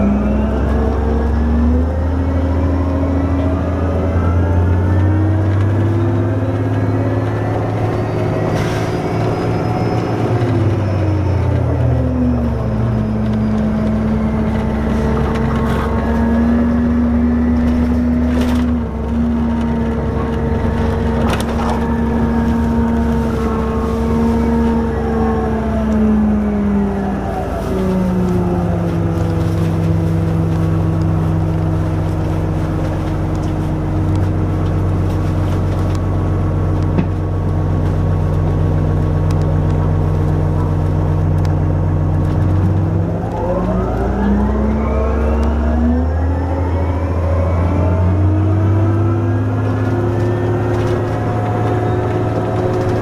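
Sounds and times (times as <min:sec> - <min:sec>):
bus engine whine and drone: 0:00.0 - 0:53.0.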